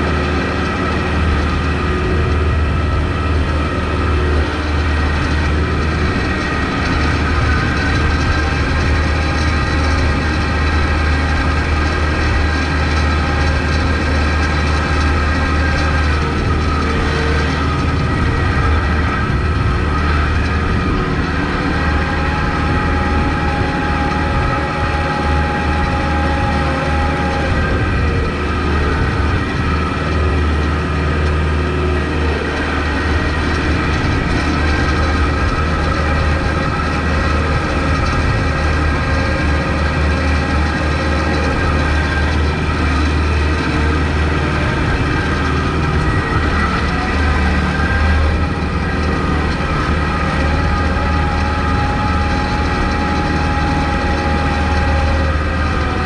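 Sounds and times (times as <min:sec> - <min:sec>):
tractor diesel engine humming: 0:00.0 - 0:56.0.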